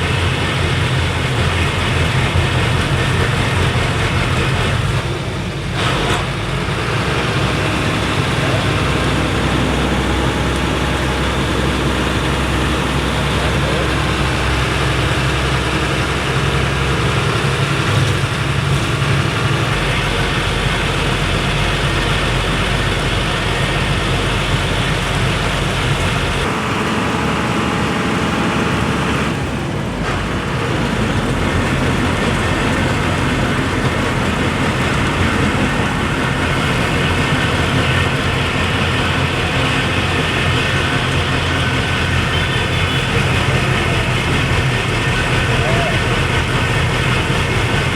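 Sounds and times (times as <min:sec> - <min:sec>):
road noise: 0:00.0 - 0:47.9
truck engine: 0:00.0 - 0:47.9.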